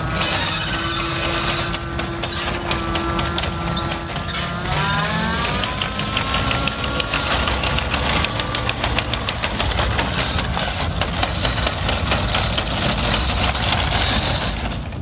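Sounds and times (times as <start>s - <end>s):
utility vehicle engine: 0.0s - 15.0s.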